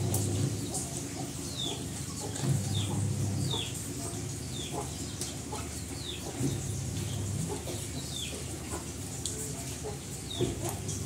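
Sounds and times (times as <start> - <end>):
chickens clucking: 0.5 - 11.0.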